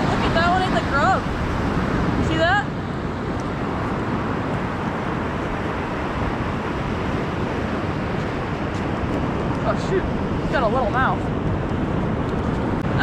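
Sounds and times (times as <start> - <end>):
surf breaking on beach: 0.0 - 13.0
wind rumbling on microphone: 0.0 - 13.0.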